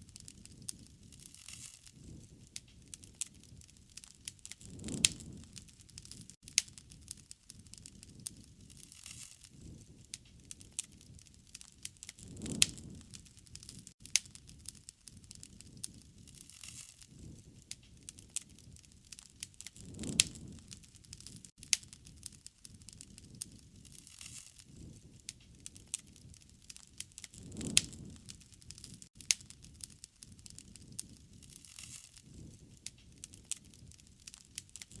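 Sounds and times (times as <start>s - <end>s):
low fire rumble: 0.0s - 35.0s
sharp fire pops: 0.0s - 35.0s
wood fire crackling: 0.0s - 35.0s.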